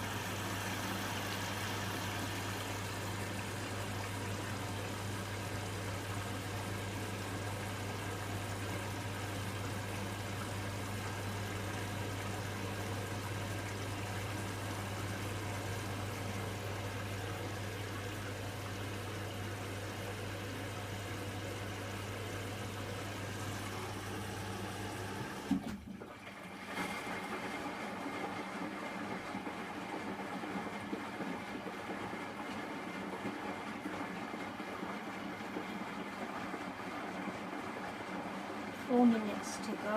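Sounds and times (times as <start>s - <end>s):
humming drain pump: 0.0s - 39.9s.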